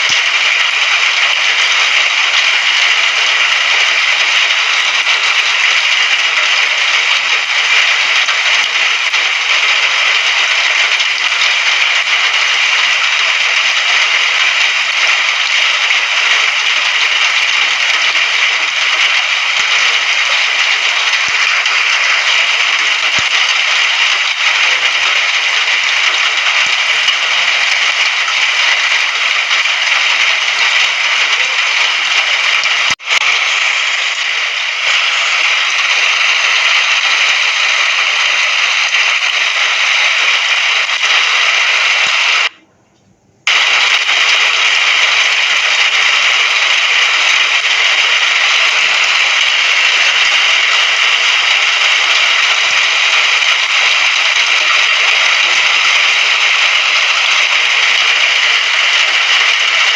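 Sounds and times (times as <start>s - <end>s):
rain hissing: 0.0s - 42.6s, 43.4s - 59.9s.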